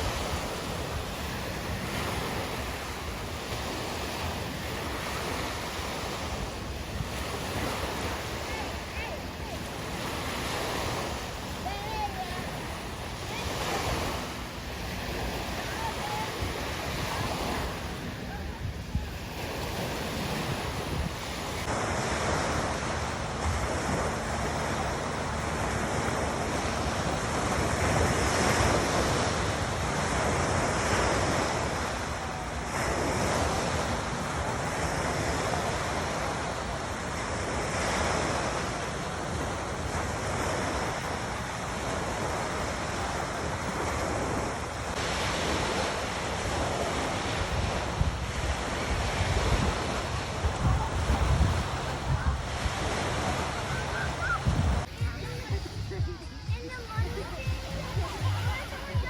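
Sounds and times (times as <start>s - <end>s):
calm waves washing onto shore: 0.0s - 59.0s.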